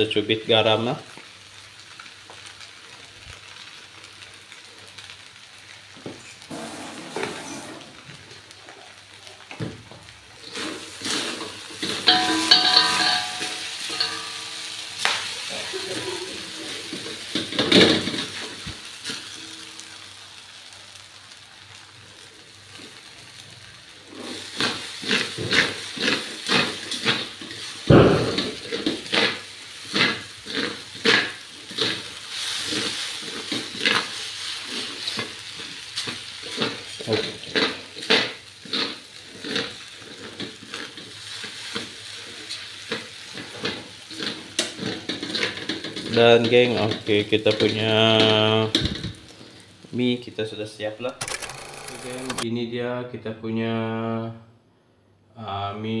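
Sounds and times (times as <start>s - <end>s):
frying sizzle: 0.0s - 51.1s.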